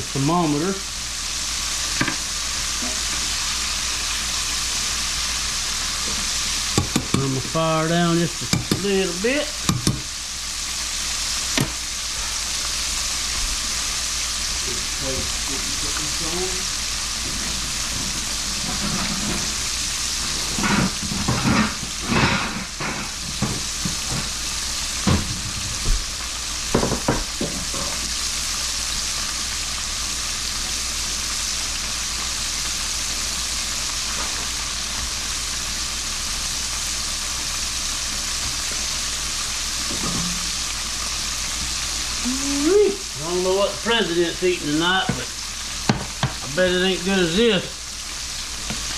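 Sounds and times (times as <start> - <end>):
oil sizzling: 0.0 - 48.9.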